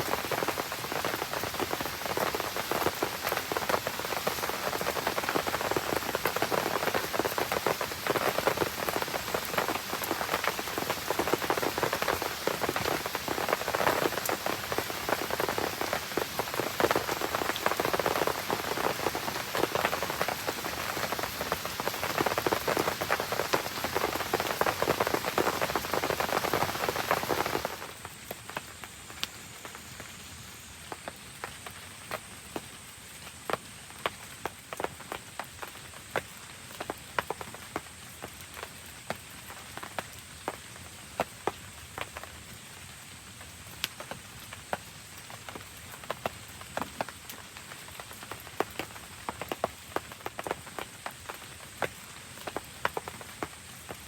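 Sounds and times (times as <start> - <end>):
heavy rain falling: 0.0 - 30.2, 33.2 - 54.0.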